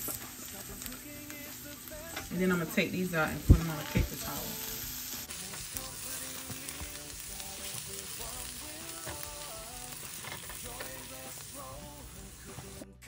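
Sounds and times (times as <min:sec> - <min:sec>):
vegetables sizzling in a skillet: 0:00.0 - 0:12.9
background music: 0:00.0 - 0:13.0.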